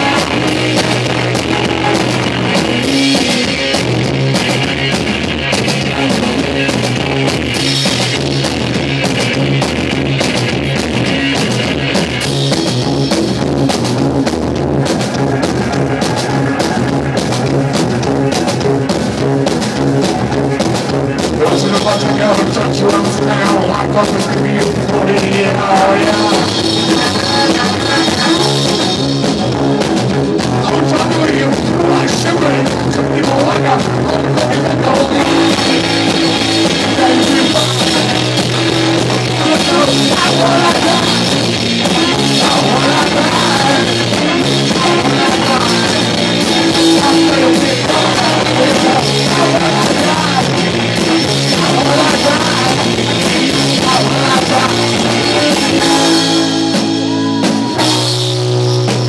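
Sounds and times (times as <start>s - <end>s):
drum kit playing: 0.0s - 59.0s
electric guitar riff: 0.0s - 59.0s.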